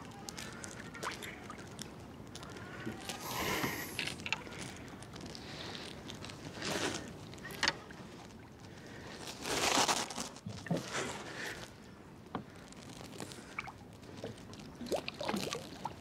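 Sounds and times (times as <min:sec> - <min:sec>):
fishing rod handling rustle: 0:00.0 - 0:16.0.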